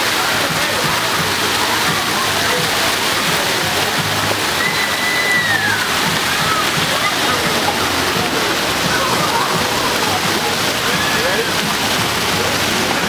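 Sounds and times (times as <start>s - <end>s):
fountain jets splashing water: 0.0s - 13.0s.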